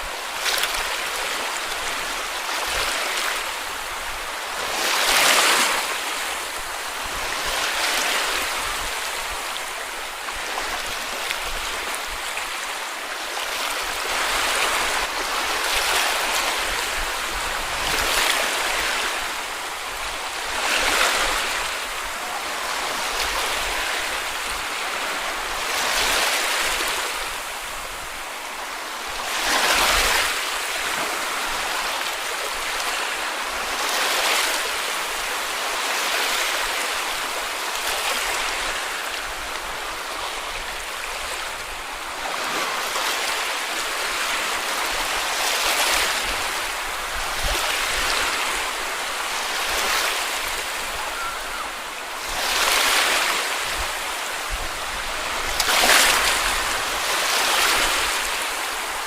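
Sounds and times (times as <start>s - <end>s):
sea waves breaking on beach: 0.0s - 59.0s.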